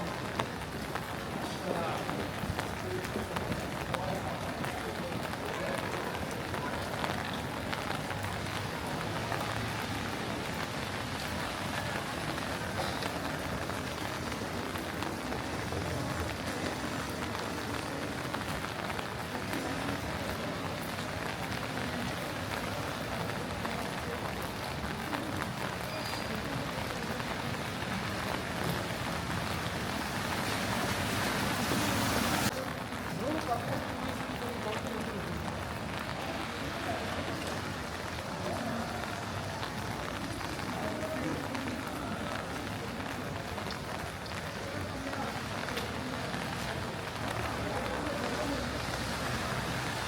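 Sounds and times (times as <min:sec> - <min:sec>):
light rain on pavement: 0:00.0 - 0:50.0
tyres hissing on wet road: 0:00.1 - 0:50.0.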